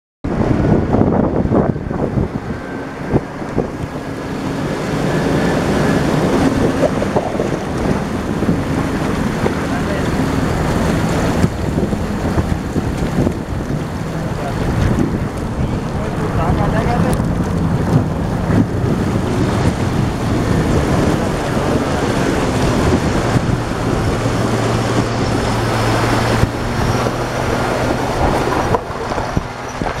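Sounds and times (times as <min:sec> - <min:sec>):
wind buffeting microphone: 0:00.2 - 0:30.0
car engine running: 0:00.3 - 0:30.0
water splashing around tyre: 0:00.3 - 0:30.0.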